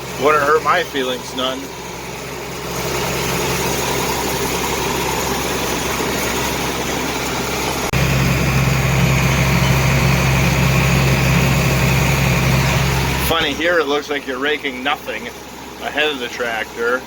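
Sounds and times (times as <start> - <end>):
tractor engine under load: 0.0 - 17.0.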